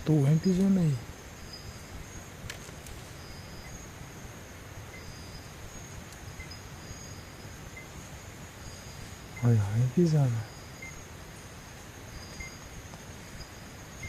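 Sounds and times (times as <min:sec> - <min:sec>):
forest hiss: 0:00.0 - 0:14.0
night insects trilling: 0:00.0 - 0:14.0.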